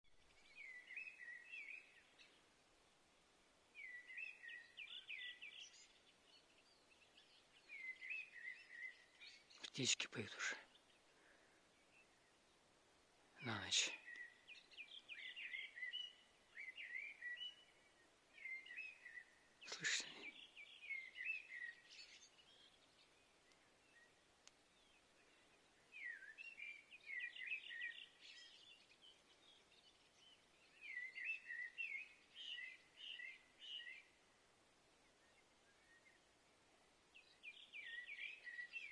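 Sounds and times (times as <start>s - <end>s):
songbird chirping: 0.1s - 38.9s.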